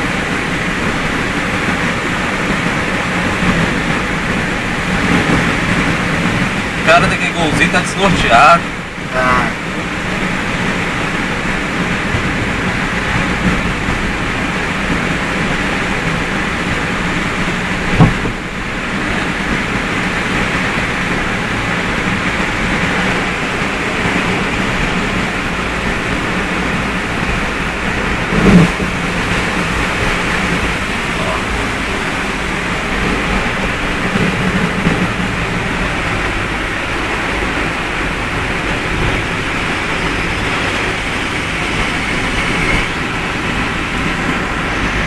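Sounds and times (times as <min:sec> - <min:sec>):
heavy rain on car: 0:00.0 - 0:45.0
tyres hissing on wet road: 0:00.0 - 0:45.0.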